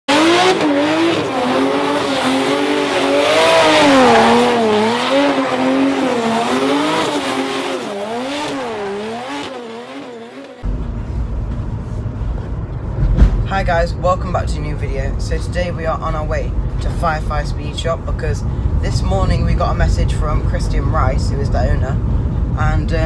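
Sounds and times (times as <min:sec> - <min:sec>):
car engine: 0:00.1 - 0:23.0.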